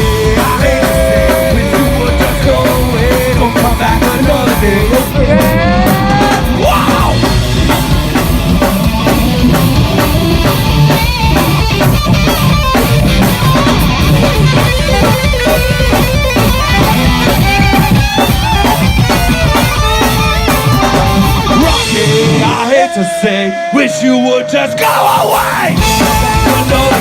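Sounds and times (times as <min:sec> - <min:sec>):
bass guitar: 0:00.0 - 0:27.0
drum kit beat: 0:00.0 - 0:27.0
electric guitar: 0:00.0 - 0:27.0.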